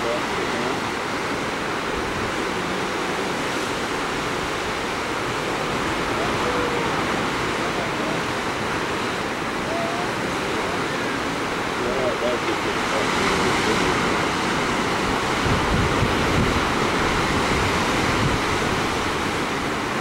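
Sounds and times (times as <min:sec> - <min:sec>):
ocean waves breaking: 0:00.0 - 0:20.0
wind: 0:00.0 - 0:20.0.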